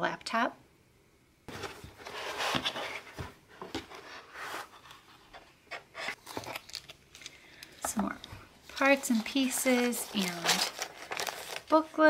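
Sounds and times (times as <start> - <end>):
cardboard packaging rustling: 1.5 - 12.0.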